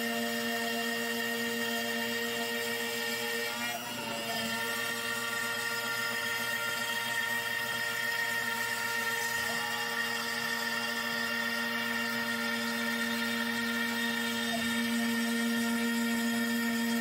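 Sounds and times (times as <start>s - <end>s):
router whining while cutting: 0.0s - 17.0s.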